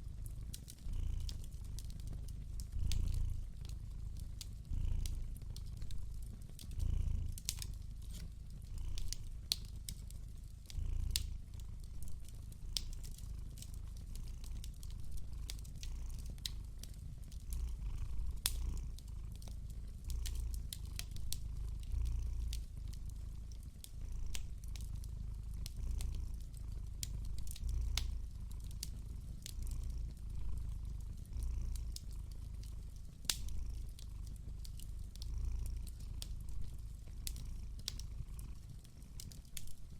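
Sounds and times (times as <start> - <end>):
cat purring: 0.0 - 39.9
wood fire crackling: 0.0 - 39.9.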